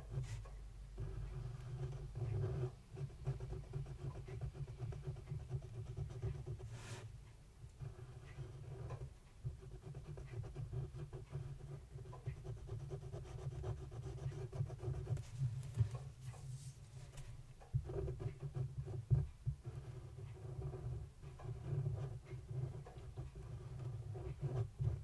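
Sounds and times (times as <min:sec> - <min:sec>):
pen scratching on paper: 0:00.0 - 0:07.1, 0:07.8 - 0:25.0.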